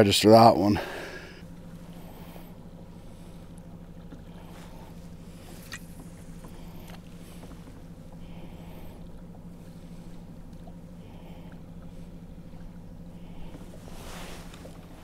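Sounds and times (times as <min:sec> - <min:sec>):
electric trolling motor humming: 0:00.8 - 0:15.0.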